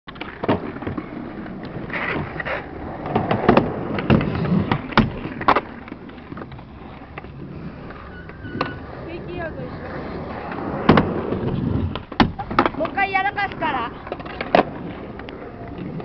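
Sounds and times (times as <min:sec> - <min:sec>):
skateboard rolling: 0:00.1 - 0:16.0.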